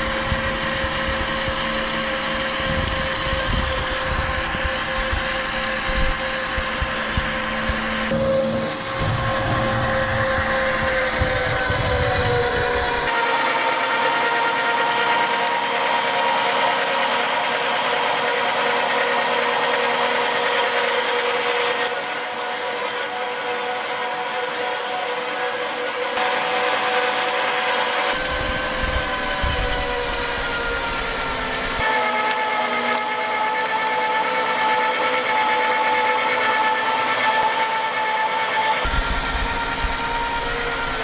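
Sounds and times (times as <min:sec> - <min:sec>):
electric meat grinder running: 0:00.0 - 0:41.0.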